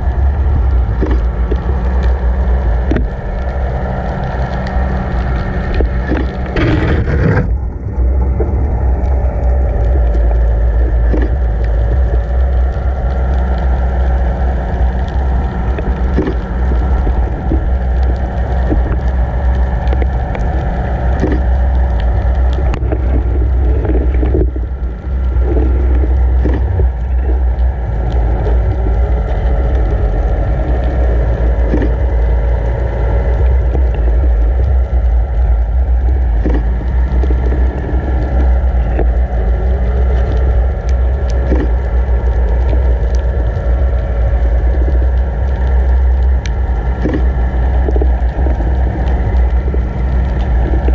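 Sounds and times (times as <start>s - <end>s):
boat motor hum underwater: 0.0s - 50.9s
underwater rushing rumble: 0.0s - 50.9s.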